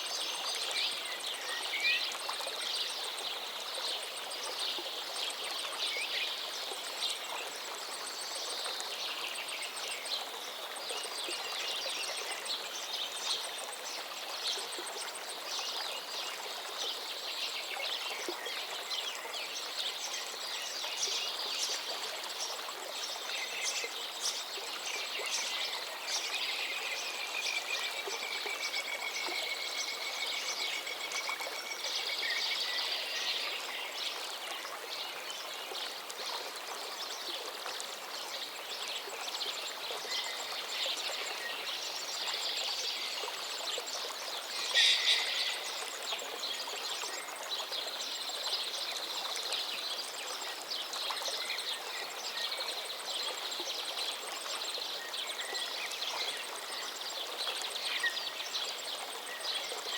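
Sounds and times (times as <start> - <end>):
river water flowing: 0.0 - 59.9
songbirds chirping: 0.0 - 59.9.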